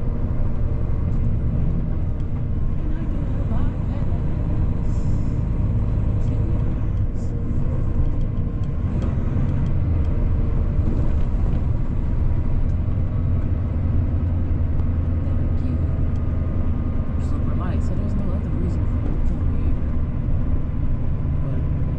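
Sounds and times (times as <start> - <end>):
road noise: 0.0 - 21.9
truck diesel engine drone: 0.0 - 21.9.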